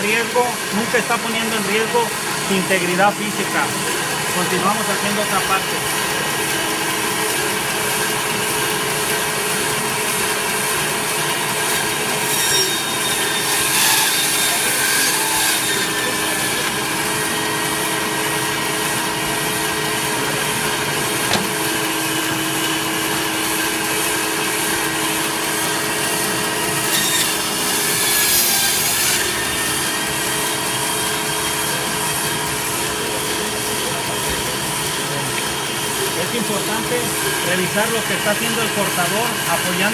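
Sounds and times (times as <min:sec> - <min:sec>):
band saw cutting meat and bone: 0:00.0 - 0:39.9.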